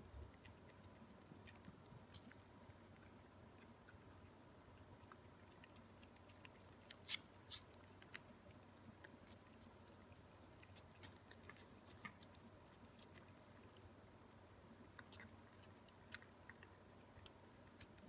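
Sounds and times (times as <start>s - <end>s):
cats licking wet tongue clicks: 0.0s - 18.0s.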